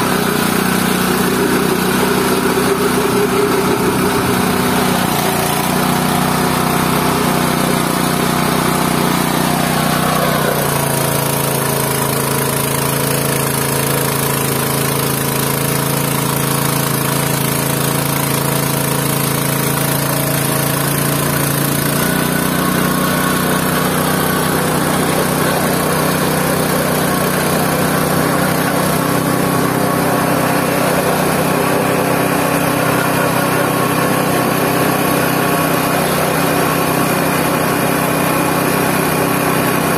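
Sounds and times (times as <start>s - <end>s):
pulverizer engine running: 0.0s - 39.9s.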